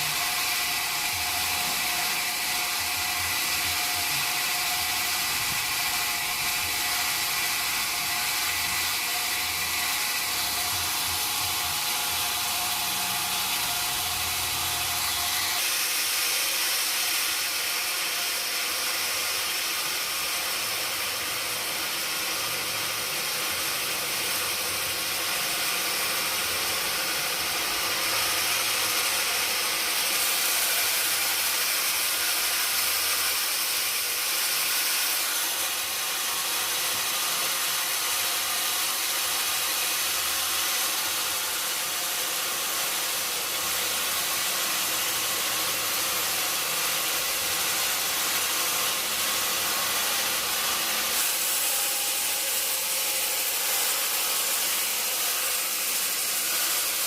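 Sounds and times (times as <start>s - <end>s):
sawmill machinery grinding: 0.0s - 57.0s.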